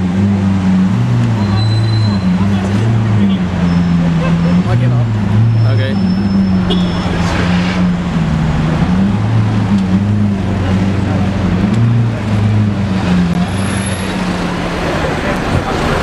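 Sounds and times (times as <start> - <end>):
street traffic: 0.0 - 16.0
crowd chatter: 1.2 - 16.0.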